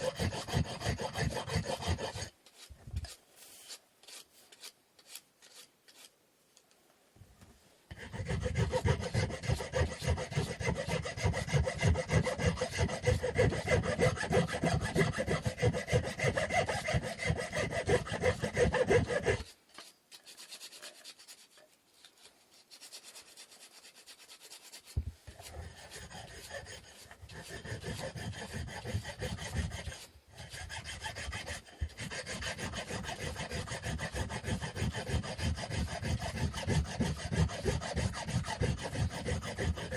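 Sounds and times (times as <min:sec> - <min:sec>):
hand tool rasping wood: 0:00.0 - 0:06.1, 0:07.9 - 0:21.6, 0:22.8 - 0:39.9.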